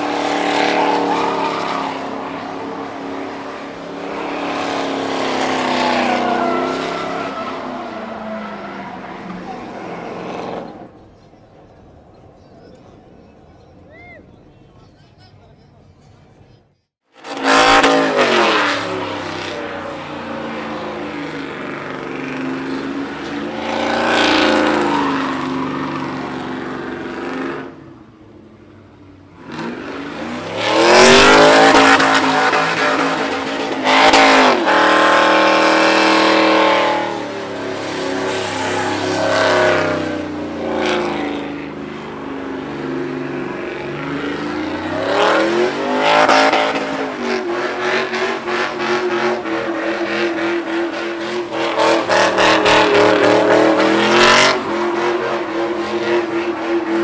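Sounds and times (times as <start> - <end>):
truck engine revving hard: 0.0 - 11.0, 17.0 - 28.0, 29.2 - 57.0.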